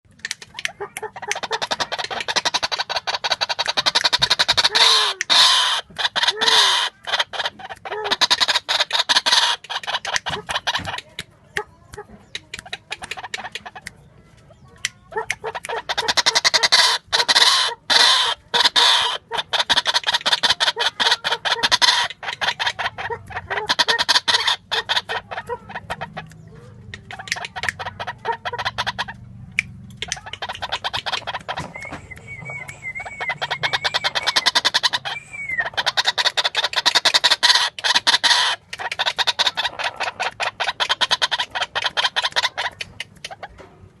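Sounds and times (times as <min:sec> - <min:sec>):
waterhen calling: 0:00.4 - 0:14.0, 0:14.8 - 0:26.4, 0:27.0 - 0:29.2, 0:30.0 - 0:43.6.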